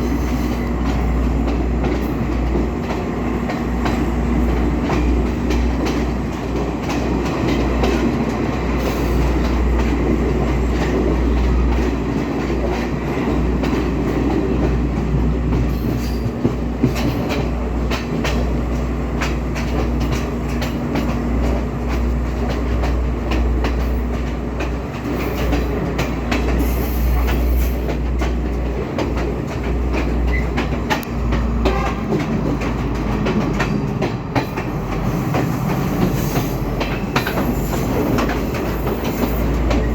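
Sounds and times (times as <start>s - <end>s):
train rumbling along track: 0.0s - 39.9s
wheels clicking over rail joints: 0.0s - 39.9s.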